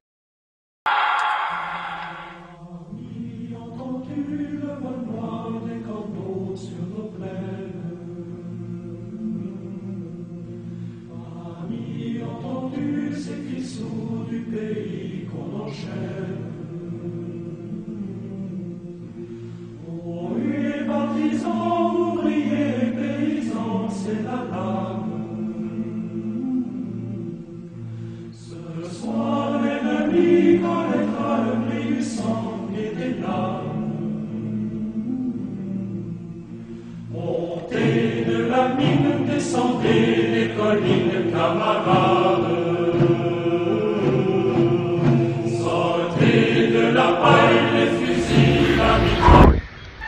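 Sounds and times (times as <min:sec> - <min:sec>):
choir singing held notes: 0:00.9 - 0:50.0.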